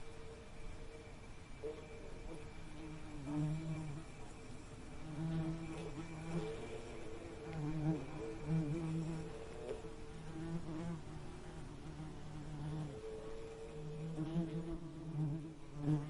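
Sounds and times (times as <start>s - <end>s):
bees buzzing in flight: 0.0s - 16.0s.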